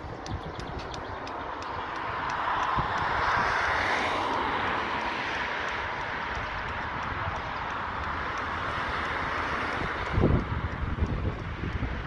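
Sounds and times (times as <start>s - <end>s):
passing motor traffic: 0.0s - 12.0s.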